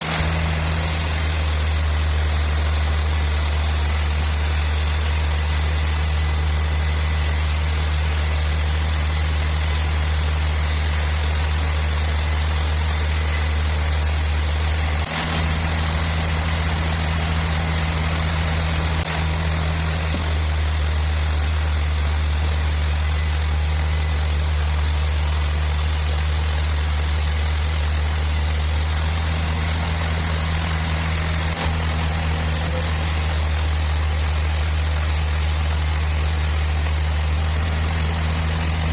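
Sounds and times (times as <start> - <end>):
sawmill machinery hum: 0.0 - 38.9.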